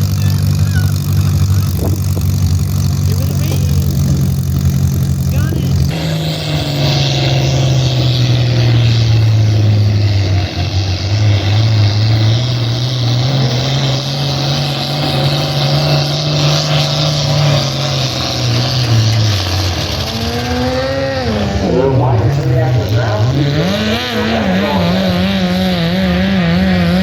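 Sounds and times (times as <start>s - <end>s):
pulling vehicle engine under load: 0.0s - 27.0s.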